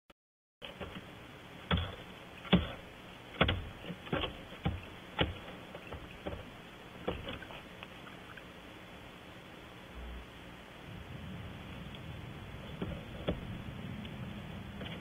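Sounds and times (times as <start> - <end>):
steady hiss: 0.6 - 15.0.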